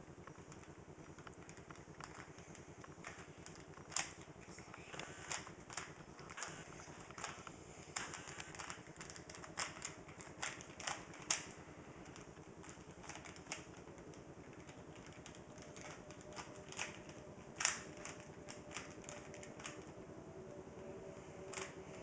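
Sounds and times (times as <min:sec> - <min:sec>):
puzzle cube clicking: 0:00.6 - 0:19.9.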